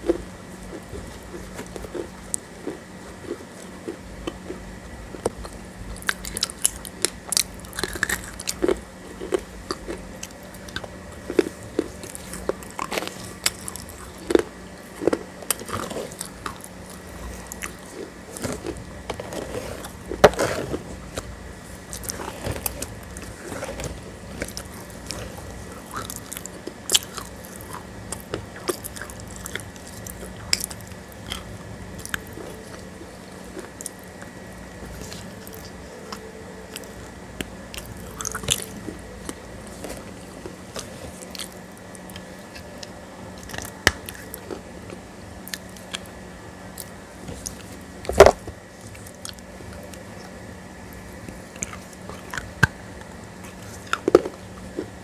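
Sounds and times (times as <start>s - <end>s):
crunchy bites: 0.0s - 50.0s.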